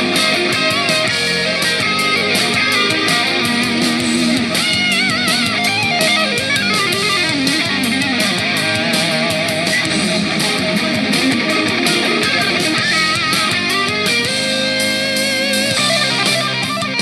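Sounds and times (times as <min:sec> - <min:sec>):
guitar music through small speaker: 0:00.0 - 0:17.0.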